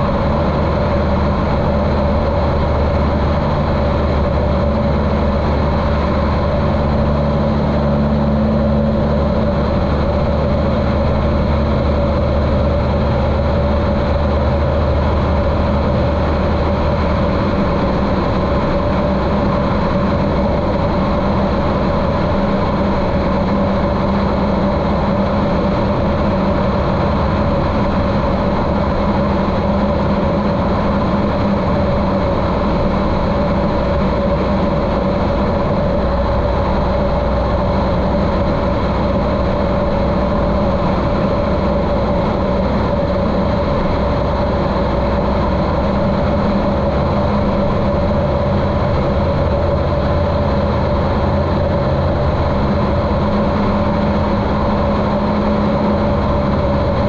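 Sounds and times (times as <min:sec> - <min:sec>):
muffled airplane engine drone: 0:00.0 - 0:57.0.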